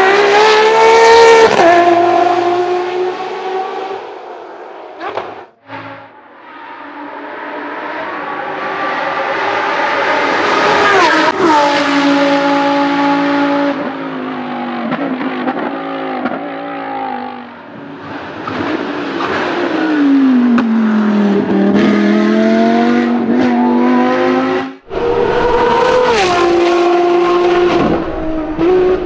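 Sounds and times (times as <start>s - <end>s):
race car engine revving: 0.0s - 13.9s, 18.0s - 29.0s.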